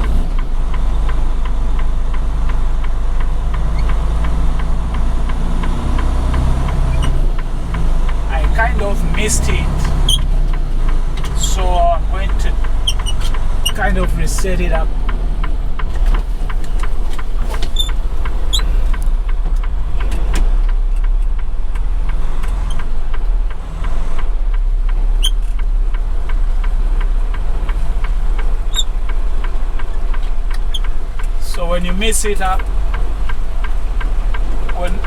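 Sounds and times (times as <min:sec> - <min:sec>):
truck diesel engine rumbling: 0:00.0 - 0:35.0.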